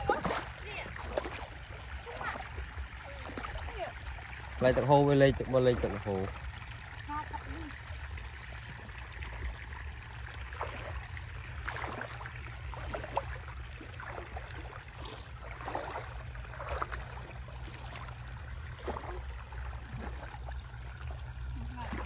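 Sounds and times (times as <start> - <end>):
water flowing and gurgling: 0.0 - 22.0.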